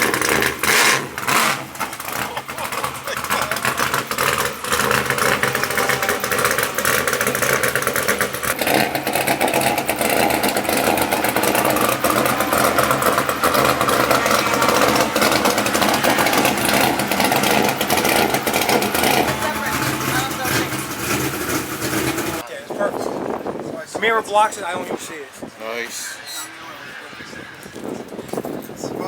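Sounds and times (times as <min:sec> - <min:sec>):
race car engines running: 0:00.0 - 0:29.0.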